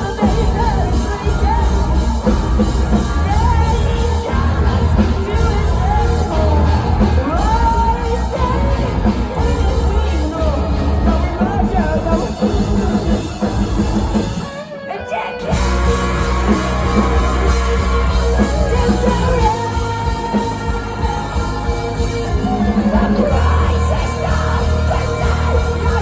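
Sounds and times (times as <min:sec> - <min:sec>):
person singing: 0:00.0 - 0:26.0
rock band playing live: 0:00.0 - 0:26.0.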